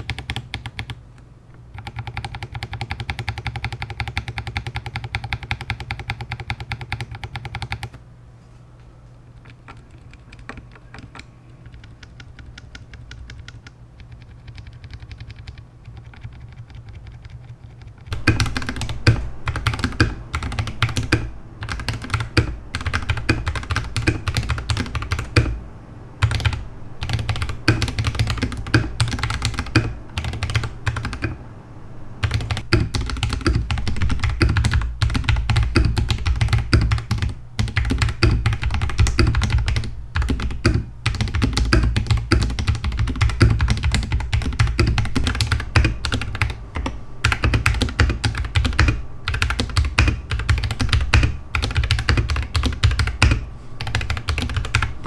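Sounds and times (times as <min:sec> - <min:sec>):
mechanical keyboard typing: 0:00.0 - 0:01.0, 0:01.7 - 0:08.0, 0:09.4 - 0:25.6, 0:26.2 - 0:31.4, 0:32.2 - 0:55.0.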